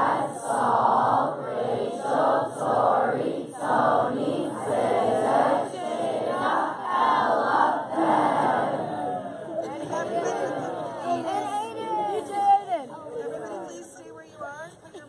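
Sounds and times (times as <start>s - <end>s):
crowd chanting in unison: 0.0s - 13.8s.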